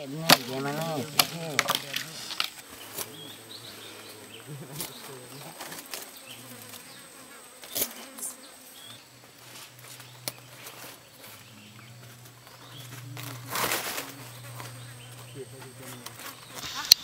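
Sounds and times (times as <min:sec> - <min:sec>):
insect buzzing: 0:00.0 - 0:17.0
dry crackles of leaf strips: 0:00.3 - 0:06.9, 0:09.3 - 0:17.0.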